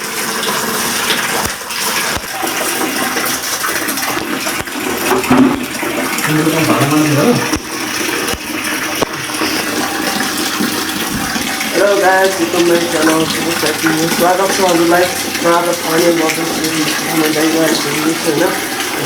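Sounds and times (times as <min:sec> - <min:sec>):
water running from a tap: 0:00.0 - 0:19.0.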